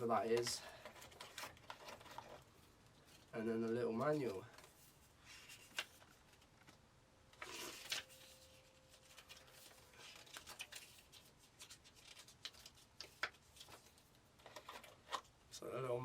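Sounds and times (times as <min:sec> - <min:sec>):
paper rustling: 0:00.4 - 0:06.8, 0:07.4 - 0:15.3.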